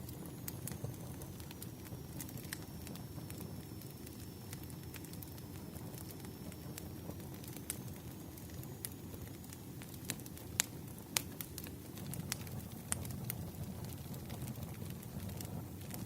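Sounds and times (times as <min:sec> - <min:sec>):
firewood crackling and popping: 0:00.0 - 0:16.0
flames rumbling: 0:00.0 - 0:16.0.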